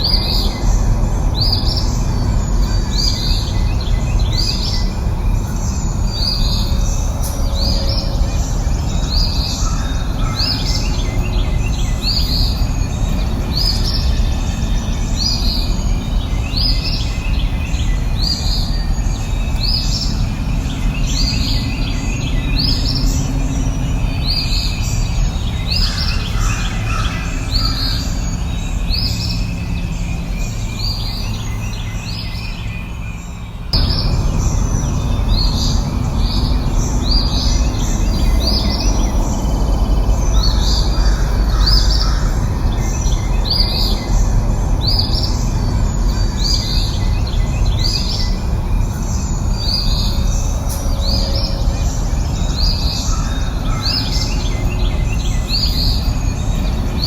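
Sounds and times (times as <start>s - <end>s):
bird chirping: 0.0s - 57.0s
low background rumble: 0.0s - 57.0s.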